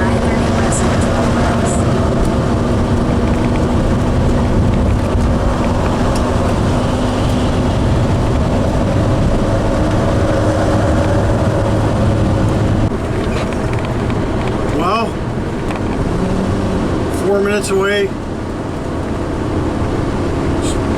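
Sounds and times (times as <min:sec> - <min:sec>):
engine drone: 0:00.0 - 0:20.9
road noise: 0:00.0 - 0:20.9.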